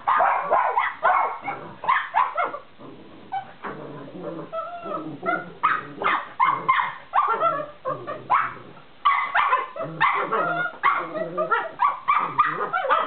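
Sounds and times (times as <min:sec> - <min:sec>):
small dogs barking: 0:00.0 - 0:02.7, 0:04.9 - 0:13.0.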